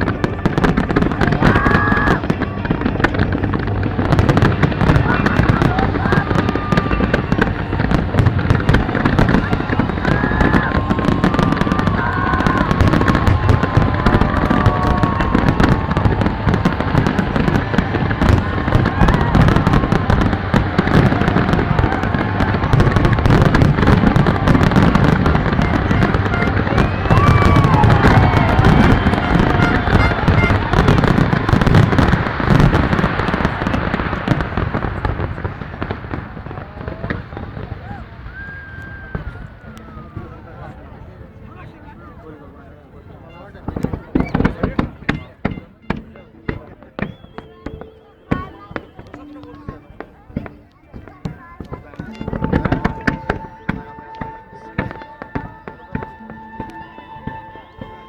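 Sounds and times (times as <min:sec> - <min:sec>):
crowd voices: 0:00.0 - 0:58.0
fireworks bangs and crackles: 0:00.0 - 0:58.0.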